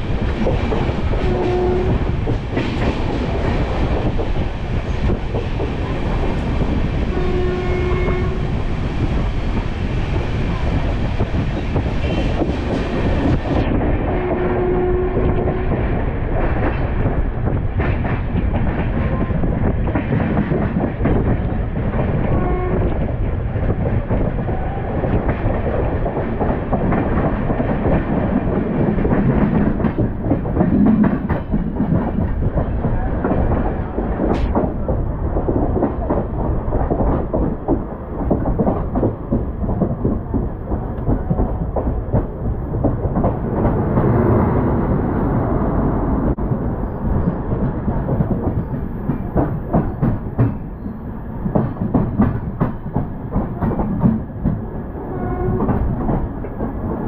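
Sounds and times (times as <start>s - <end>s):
train wheels clattering on track: 0.0s - 45.6s, 46.2s - 57.0s.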